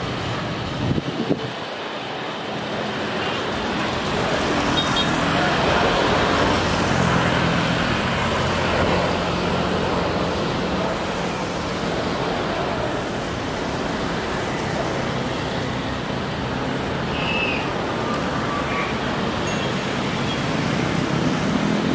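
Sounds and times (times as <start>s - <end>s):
jet engine drone: 0.0s - 21.9s
runway rollout rushing: 0.0s - 21.9s.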